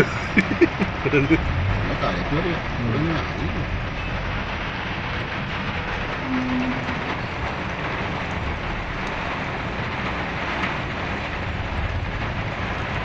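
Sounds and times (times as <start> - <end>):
heavy rain on a car: 0.0 - 13.0
low vehicle rumble: 0.0 - 13.0.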